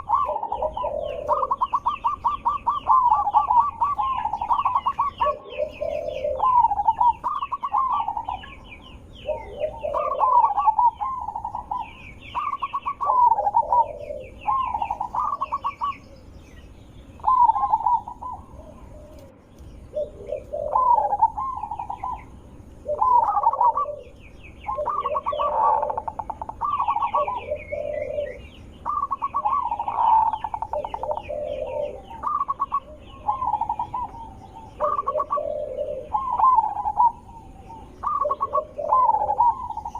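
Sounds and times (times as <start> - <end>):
dove cooing: 0.0 - 39.9
high-pitched bird chirping: 0.0 - 39.9.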